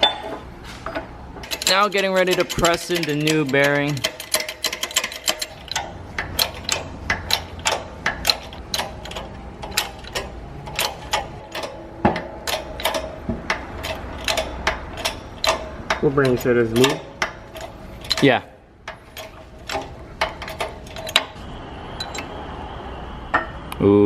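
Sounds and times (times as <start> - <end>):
shop press clicking and ticking: 0.0 - 21.4.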